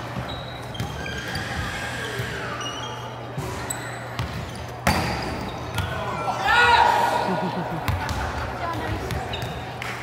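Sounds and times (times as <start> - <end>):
sneakers squeaking: 0.0 - 6.5, 7.9 - 9.8
chatter of people: 0.0 - 10.0.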